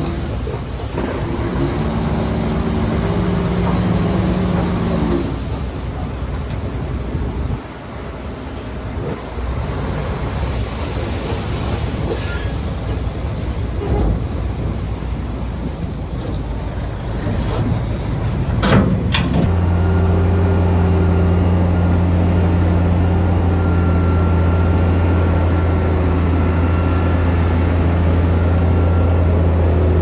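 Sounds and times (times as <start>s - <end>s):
diesel machinery engine: 0.0s - 30.0s.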